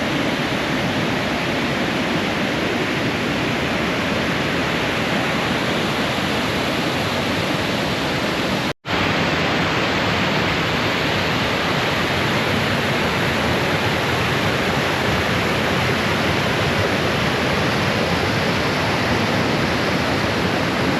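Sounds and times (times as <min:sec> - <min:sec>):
waterfall rushing over rock: 0:00.0 - 0:20.9.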